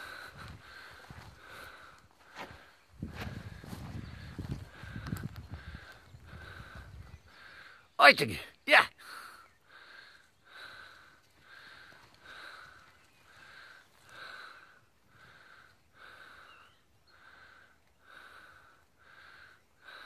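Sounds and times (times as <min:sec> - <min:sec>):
person breathing rapidly: 0:00.0 - 0:07.9, 0:09.0 - 0:20.0.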